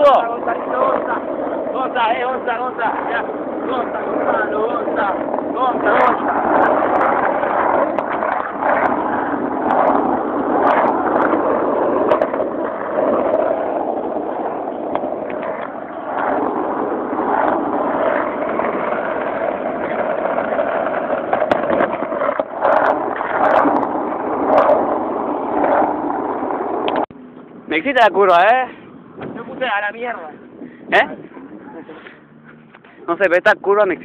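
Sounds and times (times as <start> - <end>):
skateboard wheels rolling on pavement: 0.0 - 34.0.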